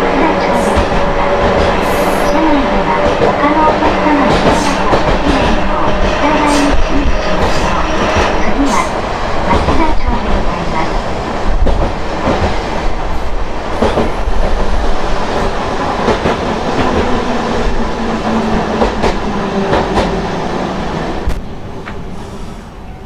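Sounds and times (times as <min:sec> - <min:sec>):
tram rumble: 0:00.0 - 0:23.0.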